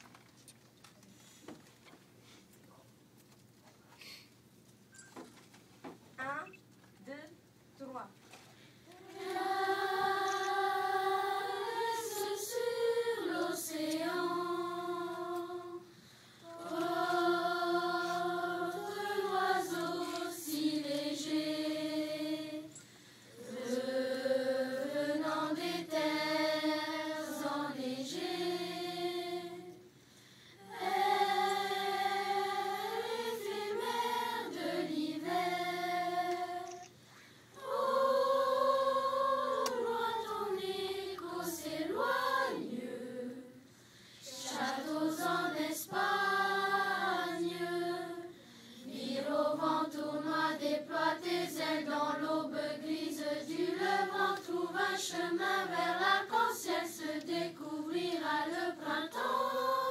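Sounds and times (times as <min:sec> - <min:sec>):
children's choir singing: 0:08.9 - 0:29.9, 0:30.6 - 0:36.9, 0:37.6 - 0:59.9.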